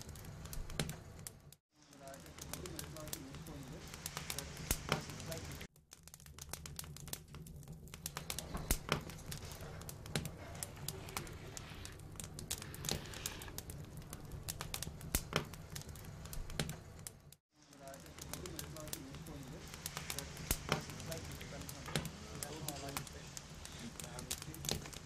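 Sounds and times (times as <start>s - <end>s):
sharp pops from burning logs: 0.0s - 25.0s
wood fire crackling: 0.0s - 25.0s.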